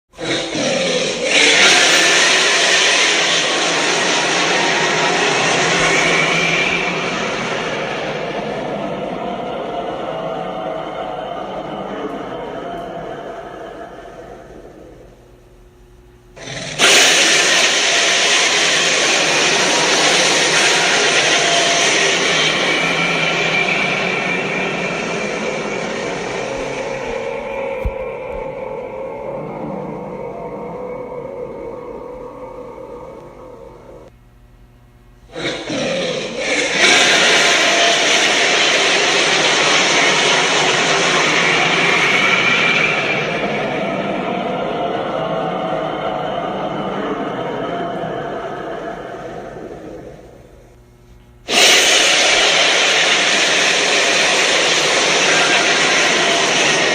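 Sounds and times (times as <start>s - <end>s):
loud rushing noise: 0.2s - 12.1s, 16.5s - 31.9s, 35.4s - 50.2s, 51.5s - 56.9s
faint high whine: 1.1s - 56.9s.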